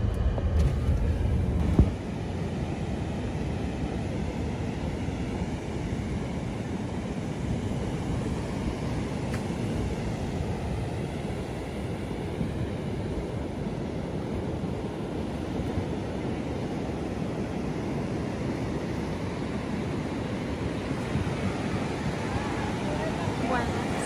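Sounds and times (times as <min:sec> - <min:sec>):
ocean surf rumbling: 0:00.0 - 0:24.0
wind: 0:00.0 - 0:24.0.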